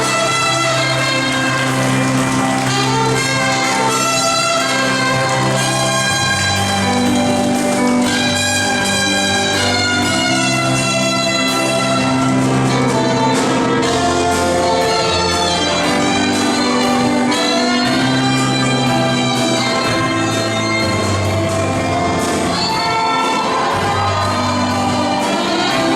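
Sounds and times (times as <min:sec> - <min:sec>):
brass fanfare: 0:00.0 - 0:25.9.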